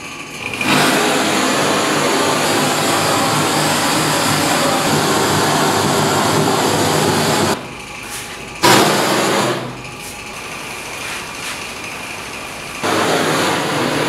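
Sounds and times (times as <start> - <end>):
gas torch flame hissing: 0.6 - 14.0.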